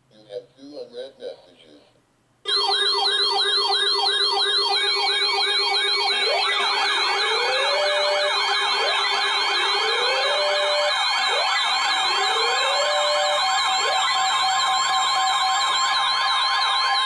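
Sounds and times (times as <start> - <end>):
electronic sirens yelping: 2.5 - 17.0
siren wailing: 2.5 - 17.0.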